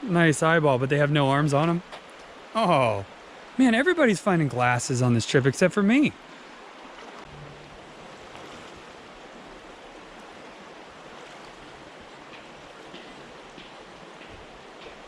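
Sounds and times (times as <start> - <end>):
mountain river flowing: 0.0 - 15.0.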